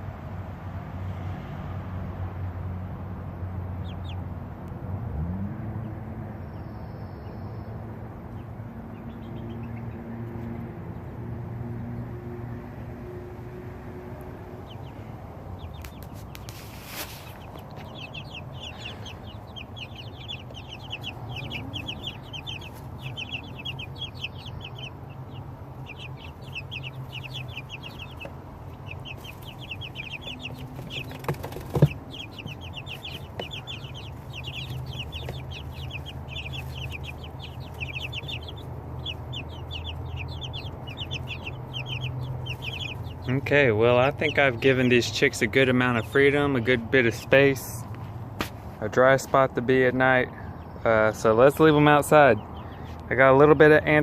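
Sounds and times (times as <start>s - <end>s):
young chickens peeping: 3.2s - 54.0s.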